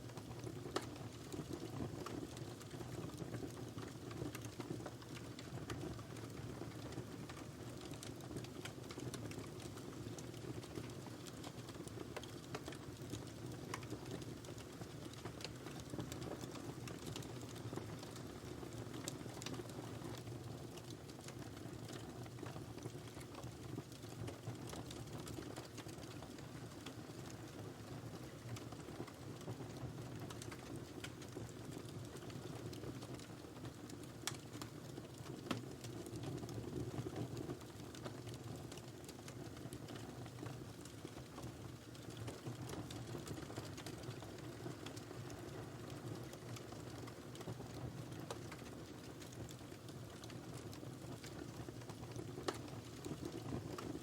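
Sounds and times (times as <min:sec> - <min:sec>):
fire burning in a fireplace: 0:00.0 - 0:54.0
fire crackles and pops: 0:00.0 - 0:54.0.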